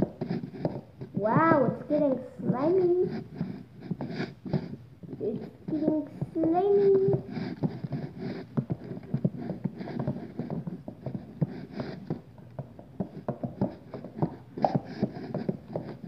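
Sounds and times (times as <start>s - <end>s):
spoon stirring slime: 0.0s - 16.0s.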